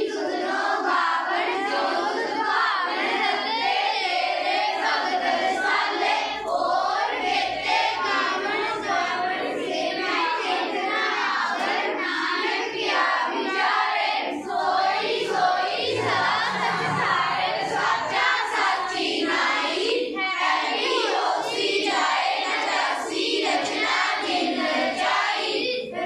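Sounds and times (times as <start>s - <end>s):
children singing in unison: 0.0s - 26.0s.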